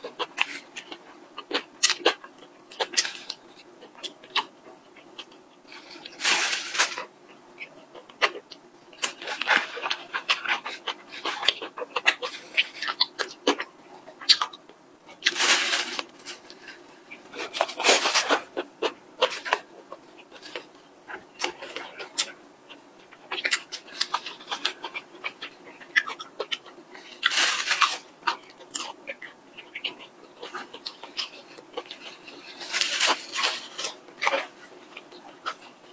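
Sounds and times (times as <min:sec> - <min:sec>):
wet chewing and lip-smacking: 0:00.0 - 0:06.2, 0:07.0 - 0:35.9.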